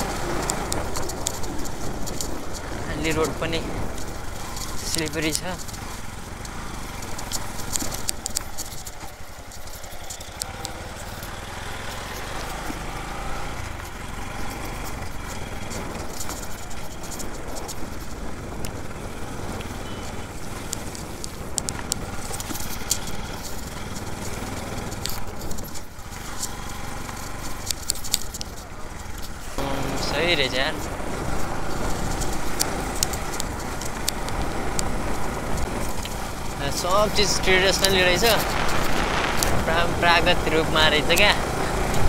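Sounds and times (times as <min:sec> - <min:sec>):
clicks and knocks from bumpy road: 0:00.0 - 0:42.0
motorcycle engine at low speed: 0:00.0 - 0:42.0
road rumble: 0:00.0 - 0:42.0.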